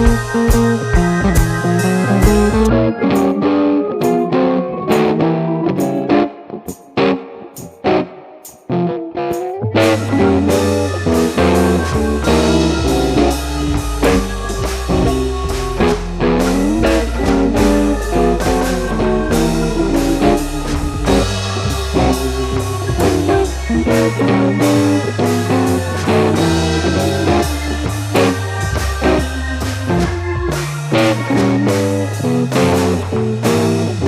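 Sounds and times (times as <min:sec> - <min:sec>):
bluesy rock music: 0:00.0 - 0:34.0.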